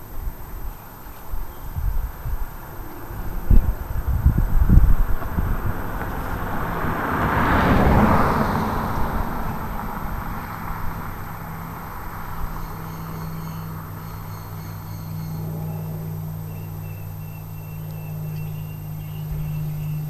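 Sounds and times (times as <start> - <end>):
low steady hum: 0.0 - 20.0
vehicle passing by: 2.3 - 20.0.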